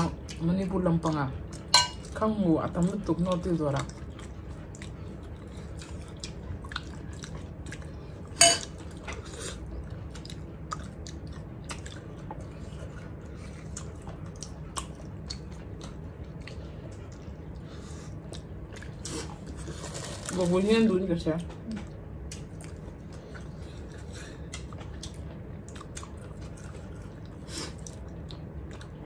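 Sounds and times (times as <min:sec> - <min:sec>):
chewing: 0:00.1 - 0:20.4, 0:21.7 - 0:29.0.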